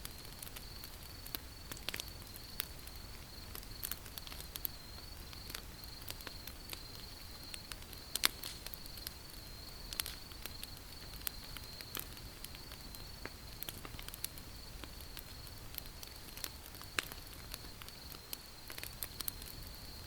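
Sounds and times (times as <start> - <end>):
campfire pops and snaps: 0.0 - 20.0
low fire hiss: 0.0 - 20.0.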